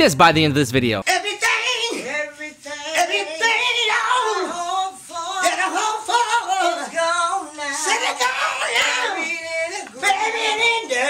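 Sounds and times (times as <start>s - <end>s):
men singing: 1.0s - 11.0s.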